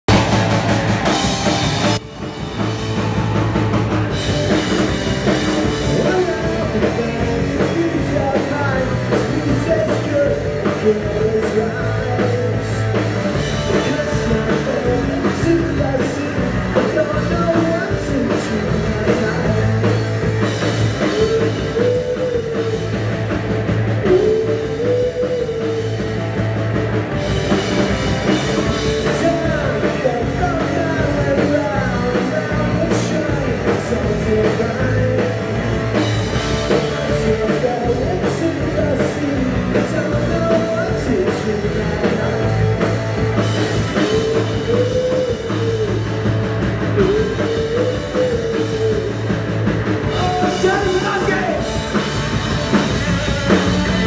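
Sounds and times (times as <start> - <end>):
bass guitar: 0.0 - 54.0
drum kit: 0.0 - 54.0
electric guitar: 0.0 - 54.0
man singing: 4.1 - 23.3, 24.0 - 26.3, 27.2 - 54.0.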